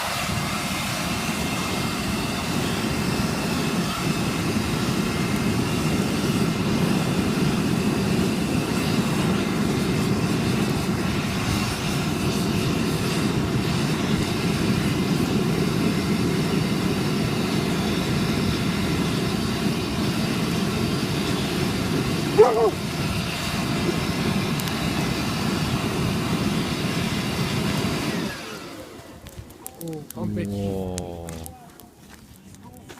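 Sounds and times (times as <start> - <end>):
large bonfire roaring: 0.0 - 32.9.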